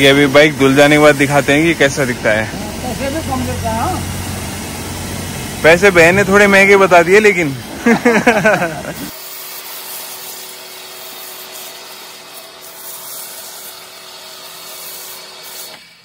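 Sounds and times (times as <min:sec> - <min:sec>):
pressure washer spray hissing: 0:00.0 - 0:16.0.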